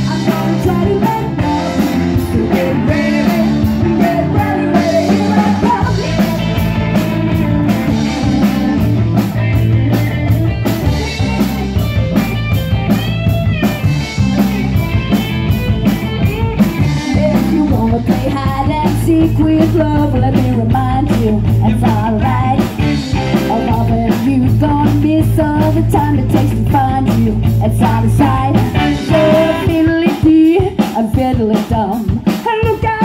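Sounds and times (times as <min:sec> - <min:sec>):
electric bass: 0:00.0 - 0:31.5
drum kit beat on cymbals: 0:00.0 - 0:33.0
electric guitar: 0:00.0 - 0:33.0.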